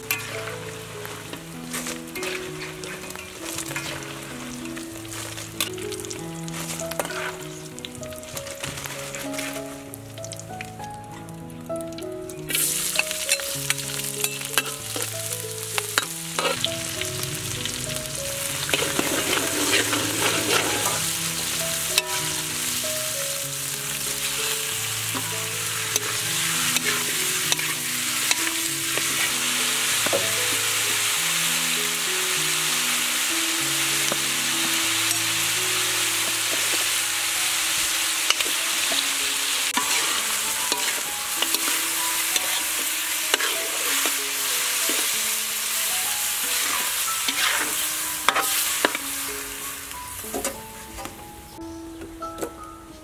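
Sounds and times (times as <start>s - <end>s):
food sizzling in hot oil: 0.0s - 50.8s.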